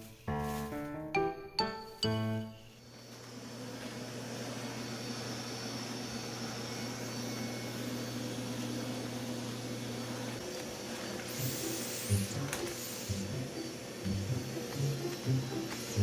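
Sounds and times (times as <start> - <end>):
vacuum cleaner running: 2.8 - 16.0.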